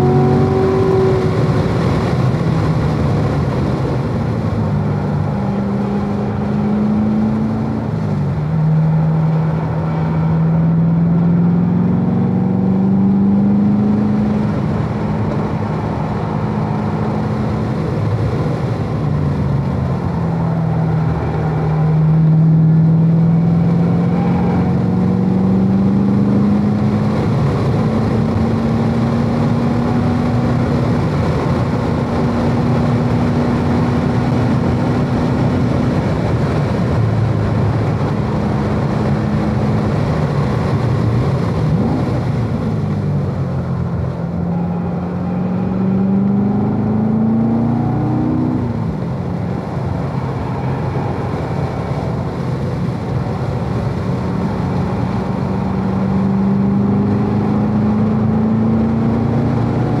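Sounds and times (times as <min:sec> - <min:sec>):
car engine: 0:00.0 - 1:00.0.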